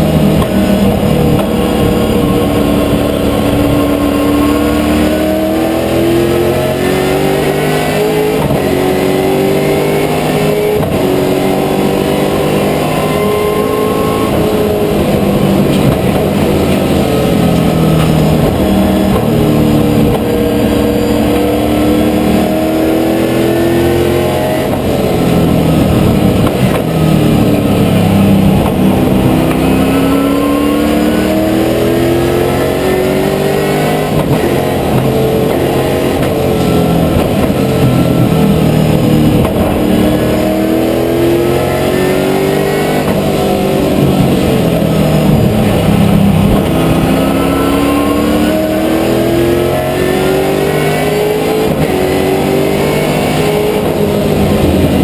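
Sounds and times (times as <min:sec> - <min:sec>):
racing car engine shifting gears: 0:00.0 - 0:55.0.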